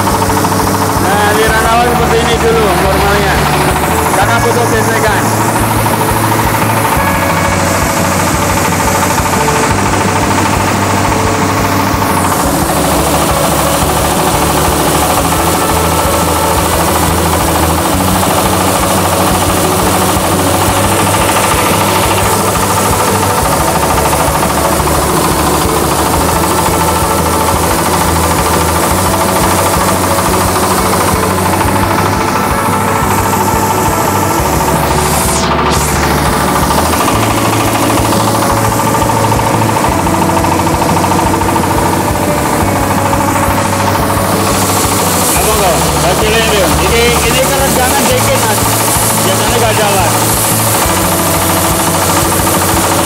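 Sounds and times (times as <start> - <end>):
diesel engine knocking: 0.0 - 53.0
rice mill rattling: 0.0 - 53.0.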